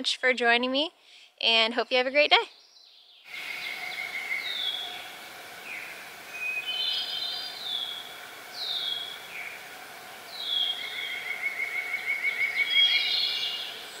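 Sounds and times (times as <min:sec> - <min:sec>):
songbirds singing: 0:02.2 - 0:14.0.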